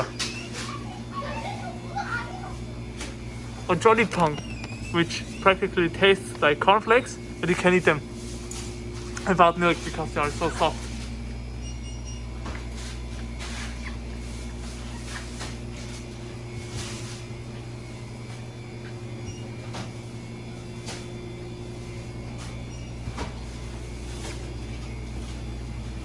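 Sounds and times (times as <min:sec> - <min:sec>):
refrigeration hum: 0:00.0 - 0:26.0.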